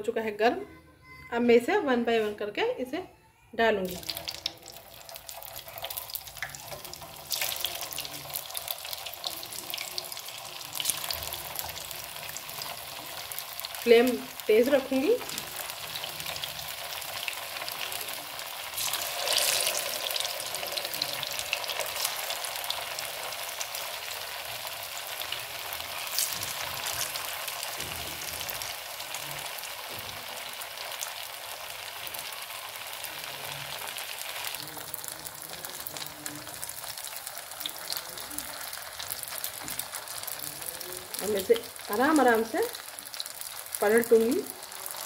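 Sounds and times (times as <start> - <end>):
fritters sizzling in hot oil: 3.8 - 45.0.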